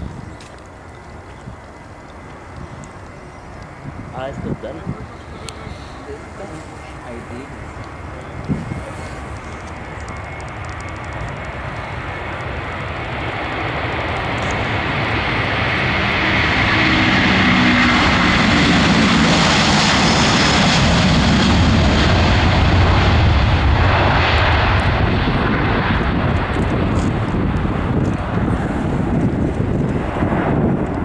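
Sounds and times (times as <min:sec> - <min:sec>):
jet engines roaring at takeoff: 0:00.0 - 0:31.0.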